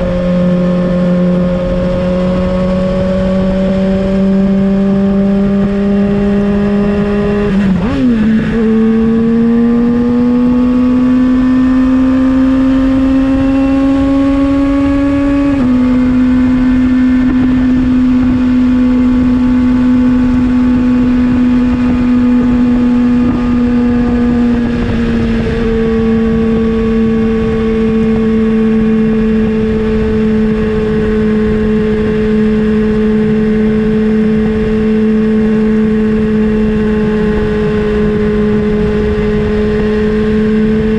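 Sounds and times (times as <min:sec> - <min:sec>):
motorcycle engine at cruising revs: 0:00.0 - 0:40.9.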